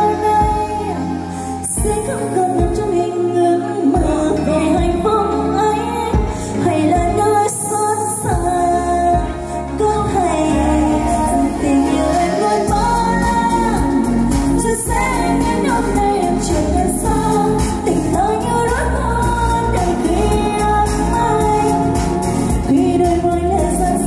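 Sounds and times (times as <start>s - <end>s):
song with singing voice: 0.0s - 24.0s.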